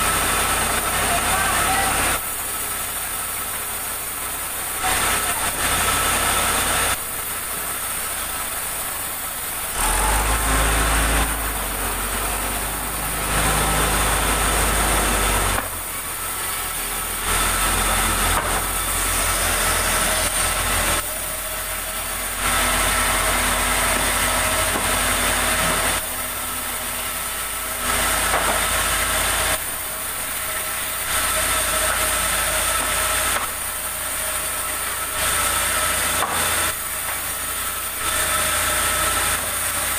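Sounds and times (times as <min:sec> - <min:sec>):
engine running steadily: 0:00.0 - 0:39.9
sawmill saw cutting wood: 0:00.0 - 0:39.9.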